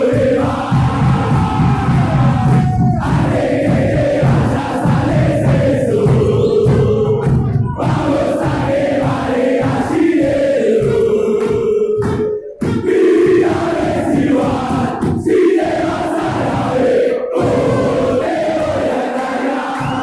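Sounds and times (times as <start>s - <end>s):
low beat: 0.0s - 19.0s
crowd chanting: 0.0s - 20.0s.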